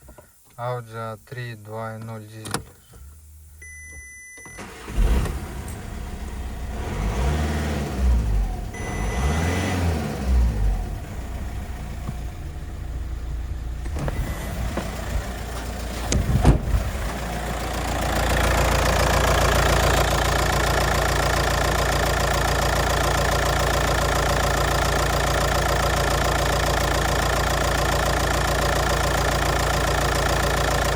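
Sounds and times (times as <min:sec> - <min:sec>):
diesel engine revving and idling: 0:04.6 - 0:30.9.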